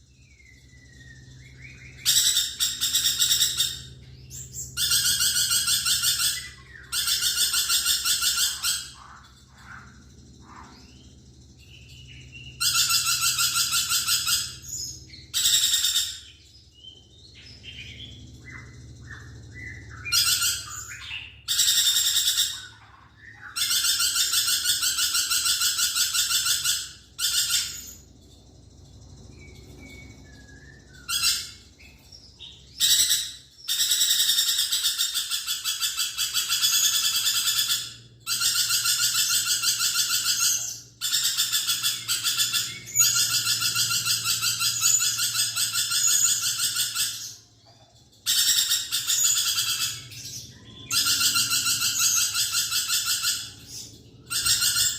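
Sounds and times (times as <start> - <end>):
lorikeet screeching: 0.4 - 28.0, 29.4 - 54.9.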